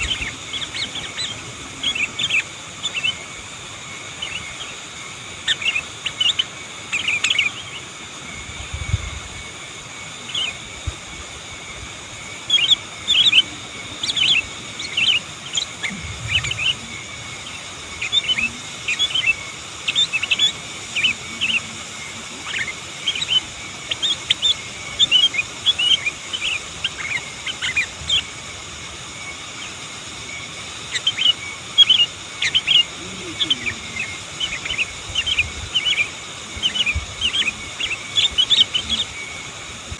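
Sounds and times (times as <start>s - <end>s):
bulbul chirping: 0.0s - 7.9s, 12.2s - 39.6s
background hiss: 0.0s - 39.9s.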